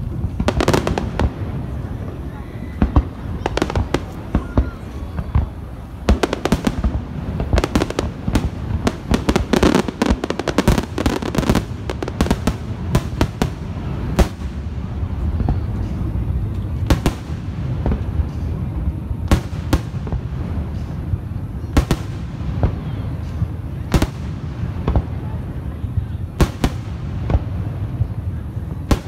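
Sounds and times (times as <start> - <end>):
firework booms: 0.0 - 16.1, 19.2 - 29.0
fireworks bangs and crackles: 0.0 - 29.0.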